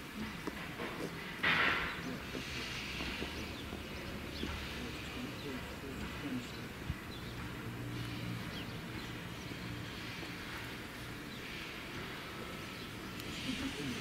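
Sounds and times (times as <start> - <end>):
birds chirping: 0.0 - 14.0
steam hissing: 0.0 - 14.0
steam locomotive moving slowly: 0.0 - 14.0.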